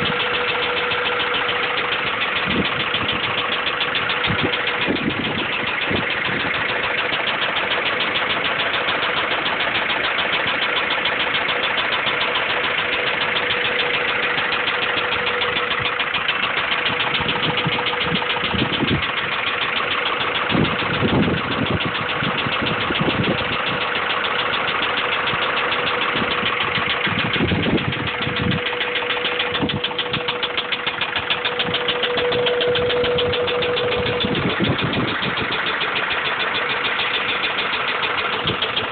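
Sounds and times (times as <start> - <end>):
engine running with rod knock: 0.0 - 38.9
engine whine: 0.0 - 38.9.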